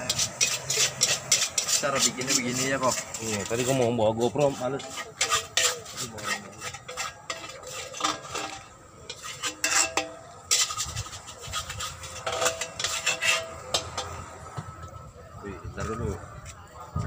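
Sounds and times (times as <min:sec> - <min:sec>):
metal spatula scraping a wok: 0:00.0 - 0:14.5.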